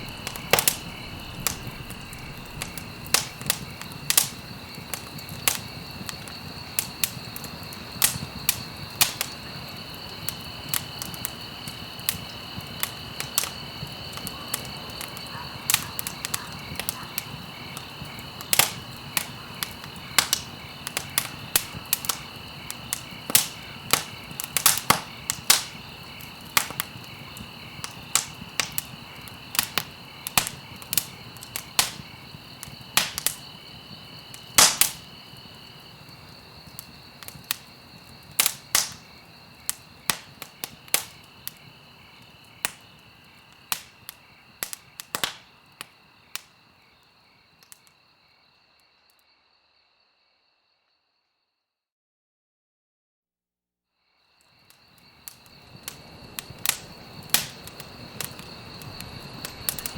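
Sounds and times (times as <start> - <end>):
campfire crackling: 0.0 - 48.2, 54.4 - 59.9.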